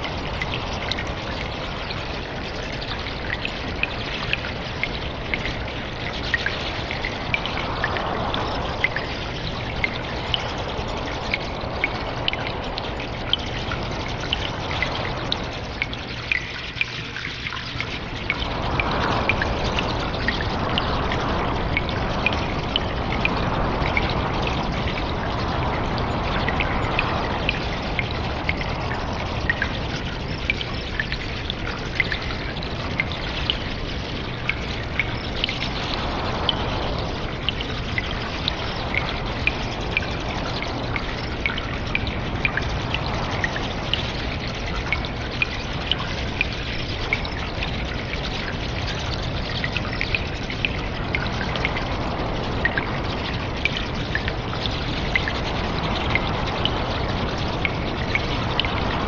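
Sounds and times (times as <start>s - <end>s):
water drips: 0.0s - 59.0s
water trickling: 0.0s - 59.0s.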